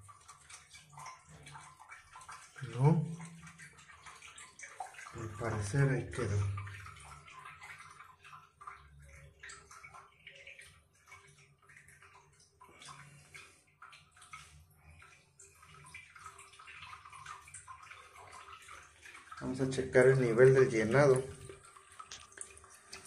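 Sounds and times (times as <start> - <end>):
water trickling into toilet tank: 0.0 - 23.0.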